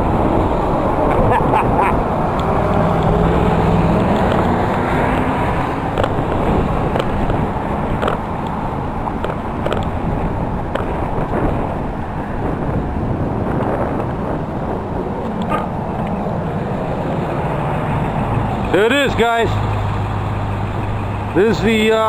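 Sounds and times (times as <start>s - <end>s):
highway traffic noise: 0.0s - 22.0s
wind buffeting microphone: 0.0s - 22.0s.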